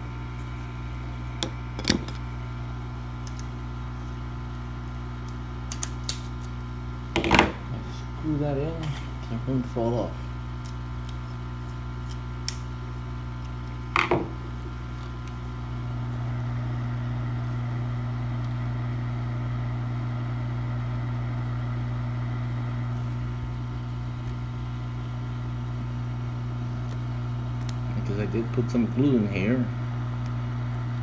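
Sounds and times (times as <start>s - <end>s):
hot air blower humming: 0.0s - 31.0s.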